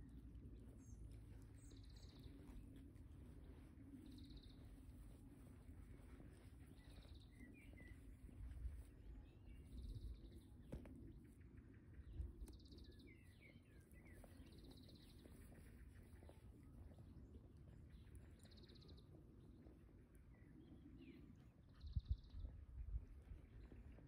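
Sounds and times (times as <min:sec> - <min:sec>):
birds chirping: 0:00.0 - 0:22.6
faint low rumble: 0:00.0 - 0:24.0.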